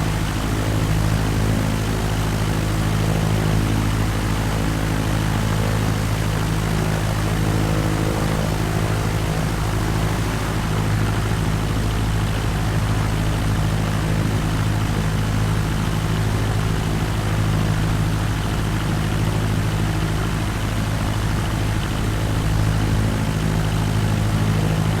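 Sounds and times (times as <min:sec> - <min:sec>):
airplane engine droning: 0:00.0 - 0:25.0.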